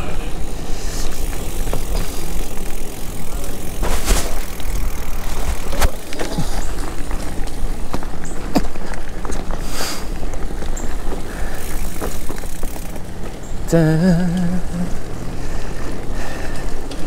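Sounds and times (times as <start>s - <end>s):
bike tyres rumbling on dirt: 0.0s - 13.7s.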